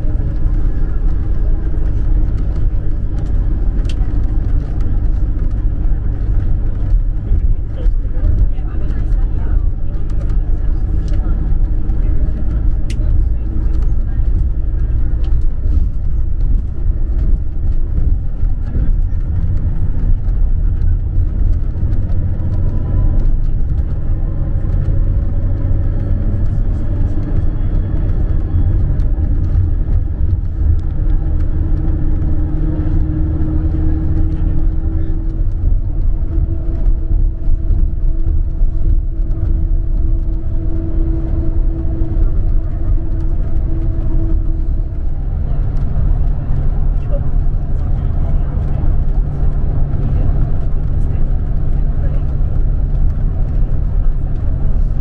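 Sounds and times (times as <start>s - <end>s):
coach engine and tyre rumble: 0.0s - 55.0s
engine drone: 0.0s - 55.0s.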